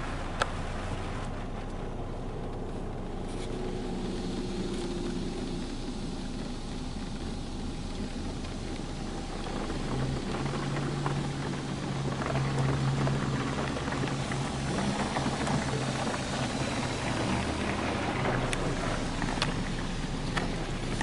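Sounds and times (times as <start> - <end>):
low motor hum: 0.0 - 21.0
water spraying on car: 0.0 - 21.0.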